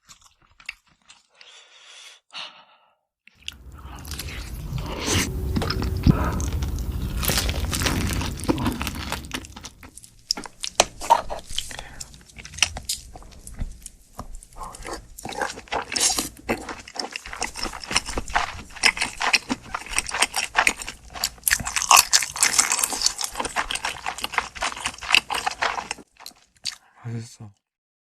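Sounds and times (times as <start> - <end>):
person chewing with mouth smacks: 0.0 - 1.6, 3.4 - 27.0.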